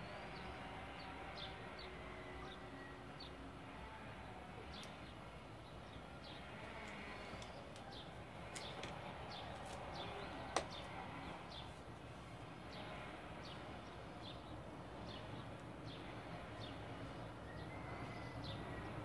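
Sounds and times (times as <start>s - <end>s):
low background noise: 0.0s - 19.0s
small birds chirping: 0.0s - 19.0s.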